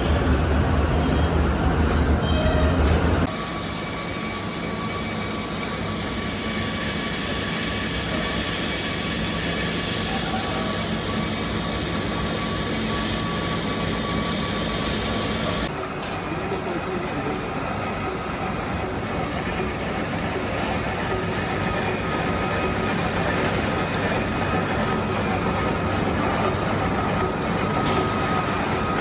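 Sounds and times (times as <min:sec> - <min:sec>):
industrial machine hiss and whine: 0:00.0 - 0:29.0.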